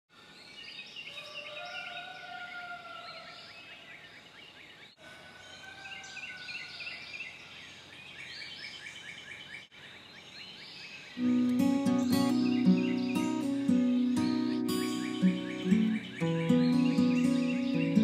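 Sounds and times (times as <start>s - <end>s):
birds chirping and trilling: 0.2s - 18.0s.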